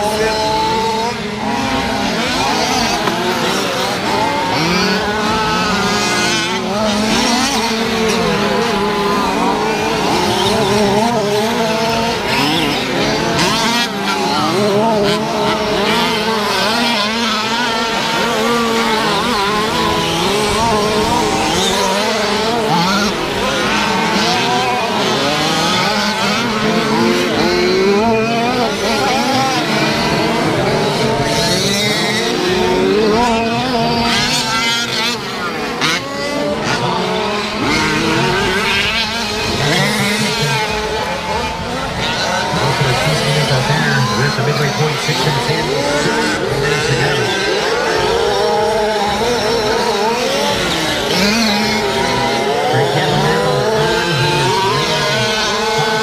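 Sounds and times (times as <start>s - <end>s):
rc truck engines revving: 0.0s - 56.0s.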